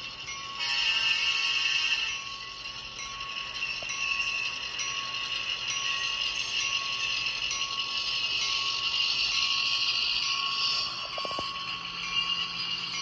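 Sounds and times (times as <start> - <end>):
model locomotive diesel sound: 0.0 - 13.0.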